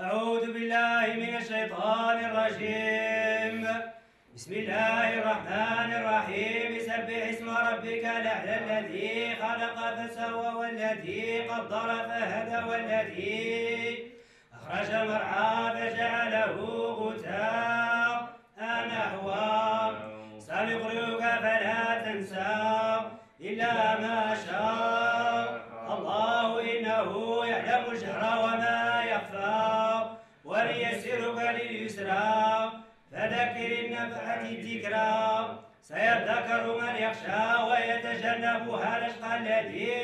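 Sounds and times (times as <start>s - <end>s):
men chanting: 0.0s - 3.8s, 4.4s - 40.0s.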